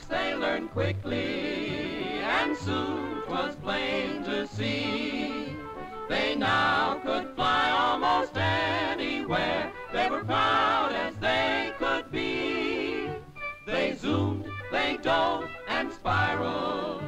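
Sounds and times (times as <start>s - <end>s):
lively cartoon music: 0.0s - 17.0s.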